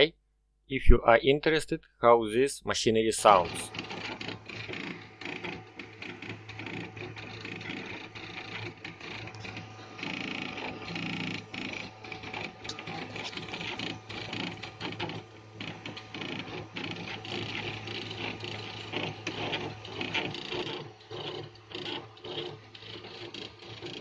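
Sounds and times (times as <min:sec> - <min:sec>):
steady low hum: 0:00.7 - 0:23.9
stepper motors buzzing and whirring: 0:03.2 - 0:24.0.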